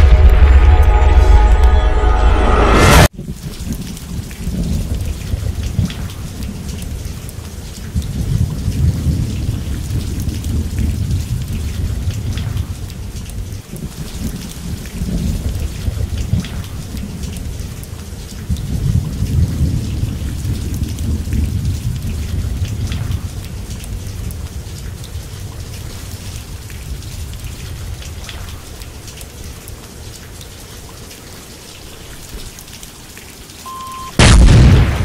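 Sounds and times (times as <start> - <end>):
thunder rumbling: 0.0 - 30.2, 33.7 - 35.0
heavy rain: 0.0 - 35.0.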